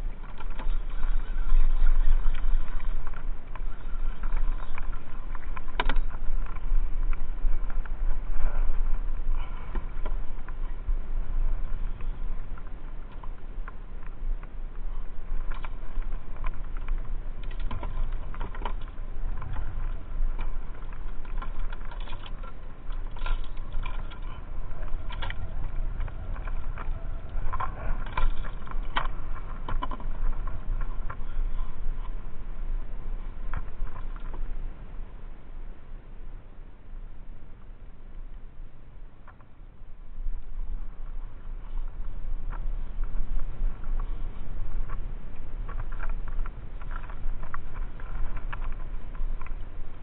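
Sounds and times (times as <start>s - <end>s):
light clicks and ticks: 0.0s - 34.6s, 40.2s - 50.0s
wind rumbling on microphone: 0.0s - 50.0s.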